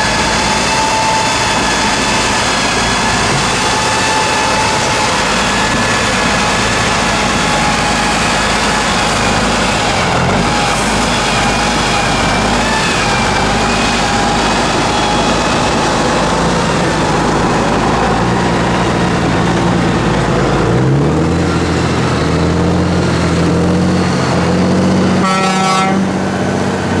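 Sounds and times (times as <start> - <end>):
truck horn toot: 0.0 - 20.8, 23.5 - 26.5
diesel truck engine revving: 0.0 - 27.0.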